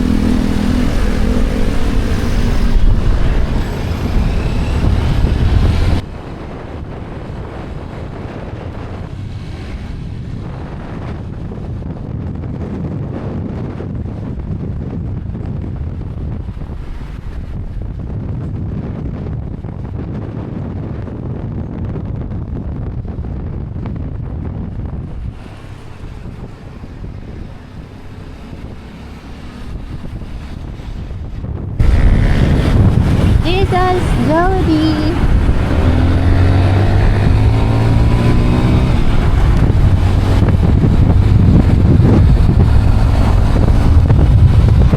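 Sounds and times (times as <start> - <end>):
motorcycle ride rumble: 0.0 - 44.9
wind buffeting microphone: 0.0 - 44.9.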